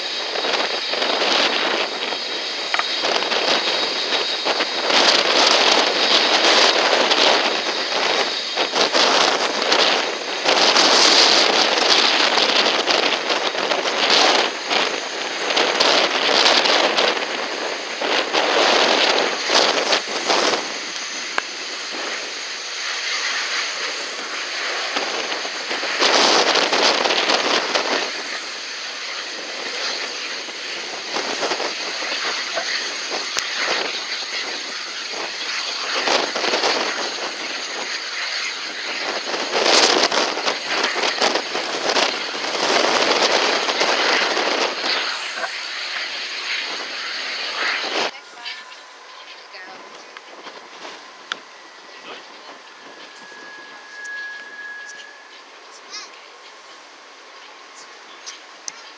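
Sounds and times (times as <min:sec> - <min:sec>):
airliner engine taxiing: 0:00.0 - 0:58.9
wind gusting across microphone: 0:00.0 - 0:58.9.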